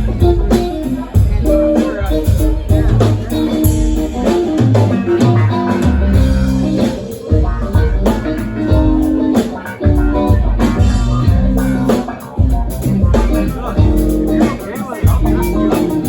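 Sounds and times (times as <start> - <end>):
bass guitar low notes: 0.0 - 16.0
live band playing: 0.0 - 16.0.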